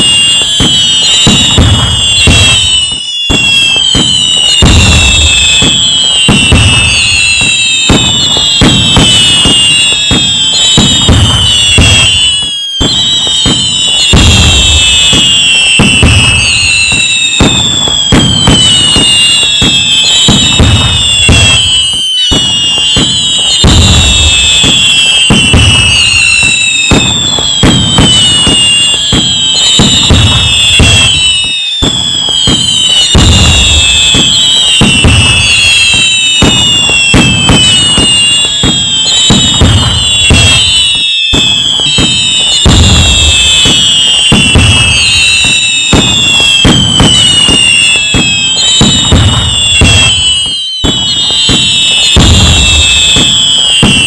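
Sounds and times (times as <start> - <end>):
falling firework whistles: 0.0 - 54.0
firework booms: 0.0 - 54.0
firework crackling: 0.0 - 54.0.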